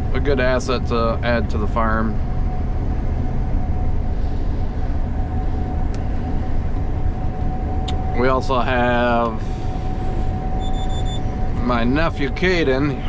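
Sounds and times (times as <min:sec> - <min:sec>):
combine harvester machinery rumble: 0:00.0 - 0:13.0
thin steady whine: 0:00.0 - 0:13.0.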